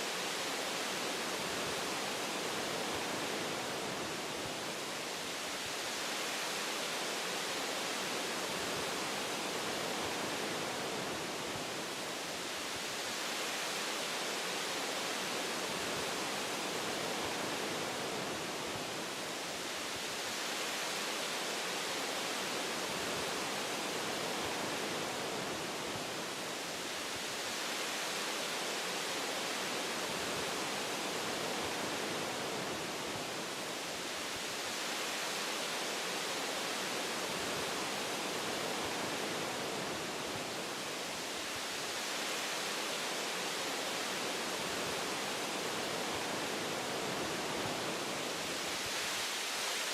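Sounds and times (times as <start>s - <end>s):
wind through tree branches: 0.0s - 49.9s.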